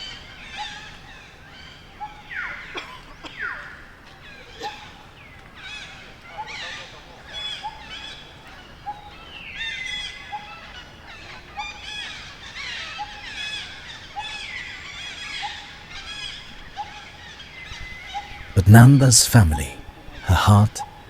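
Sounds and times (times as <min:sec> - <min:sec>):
birds chirping and trilling: 0:00.0 - 0:18.6.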